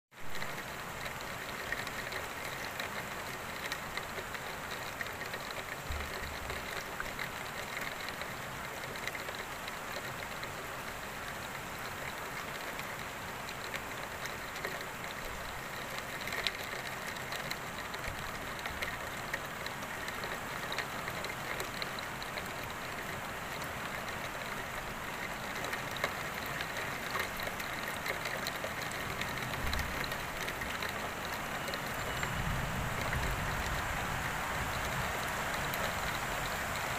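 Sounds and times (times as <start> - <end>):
heavy rain falling: 0.2 - 36.9
single raindrops ticking: 0.2 - 36.9.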